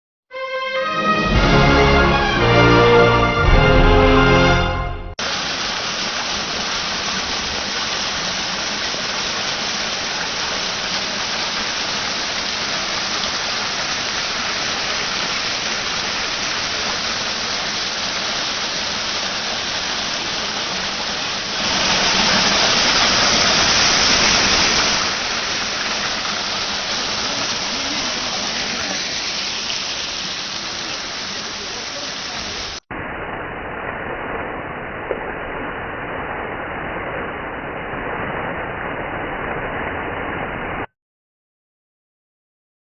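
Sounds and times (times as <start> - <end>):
waterfall rushing: 0.4 - 35.4.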